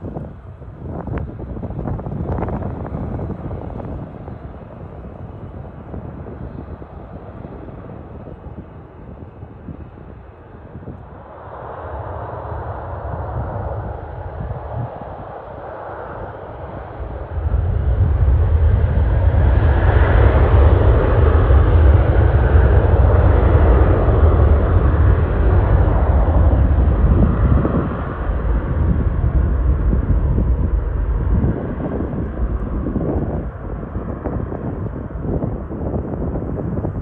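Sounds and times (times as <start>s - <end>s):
jet airliner engines at takeoff: 0.0s - 37.0s.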